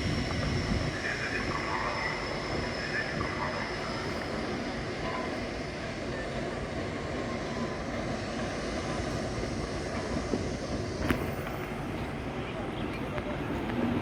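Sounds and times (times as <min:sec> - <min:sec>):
train cars rumbling: 0:00.0 - 0:14.0.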